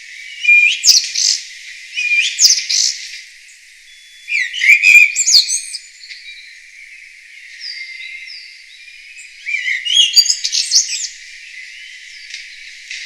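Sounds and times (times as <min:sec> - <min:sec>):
songbirds whistling and chirping: 0:00.0 - 0:13.0.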